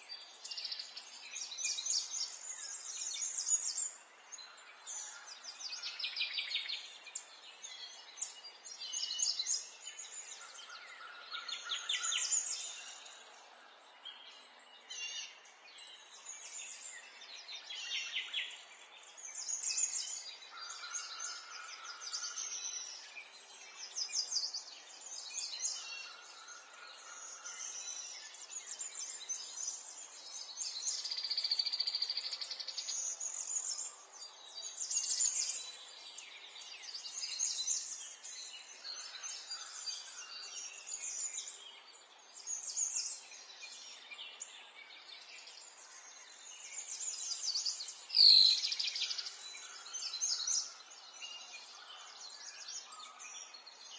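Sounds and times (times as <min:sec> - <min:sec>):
wild birds singing and calling: 0:00.0 - 0:53.9.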